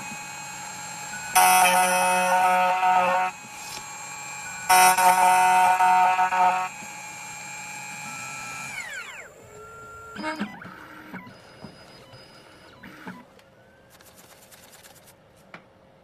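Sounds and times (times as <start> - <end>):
key cutting machine whine: 0.0 - 13.3.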